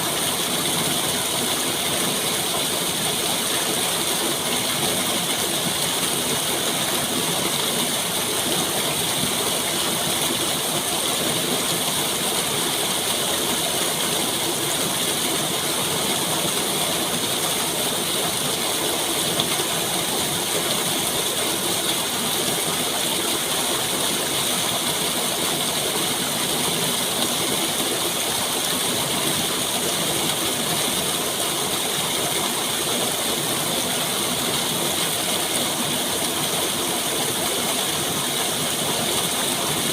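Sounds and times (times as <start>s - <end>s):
rushing running water: 0.0s - 39.9s.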